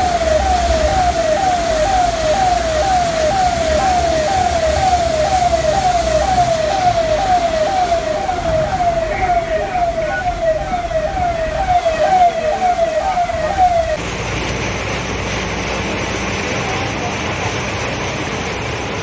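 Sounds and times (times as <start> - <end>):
emergency vehicle siren wailing: 0.0 - 19.0.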